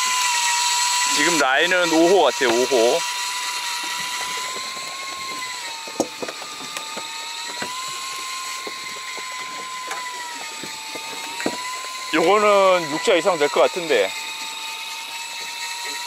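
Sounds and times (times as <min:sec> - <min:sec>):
fishing reel motor whining: 0:00.0 - 0:16.0.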